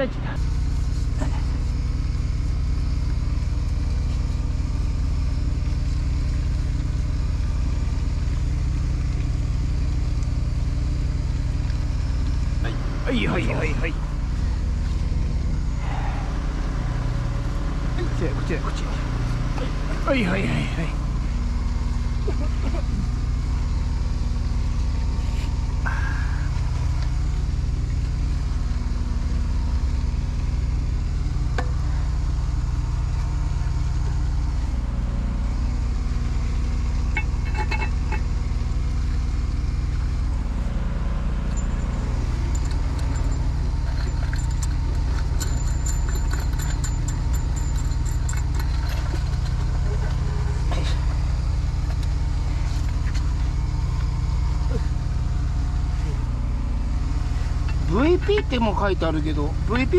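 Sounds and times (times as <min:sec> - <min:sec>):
diesel excavator engine running: 0:00.0 - 0:59.9.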